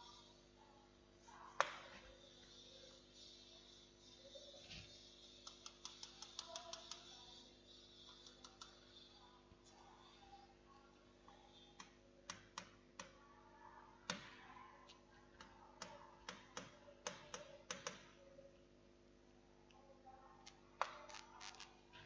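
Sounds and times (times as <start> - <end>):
stylus tapping and scratching on tablet: 0.0 - 13.4, 14.0 - 18.2, 20.4 - 22.0
faint electrical hum: 0.0 - 22.0.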